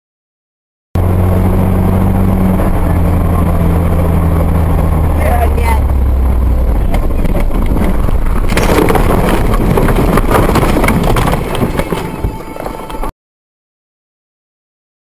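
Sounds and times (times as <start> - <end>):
car crunching and scraping in snow: 1.0 - 13.1.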